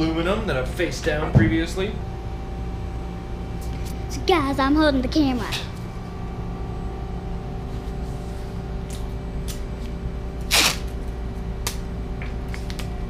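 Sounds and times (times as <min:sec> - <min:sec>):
machine shop equipment hum: 0:00.0 - 0:13.0.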